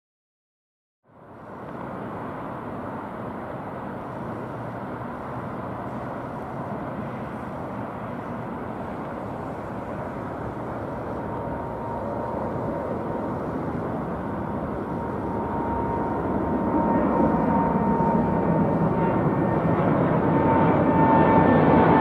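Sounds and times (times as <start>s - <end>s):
steady whine: 1.1s - 22.0s
jet engine rush: 1.2s - 22.0s.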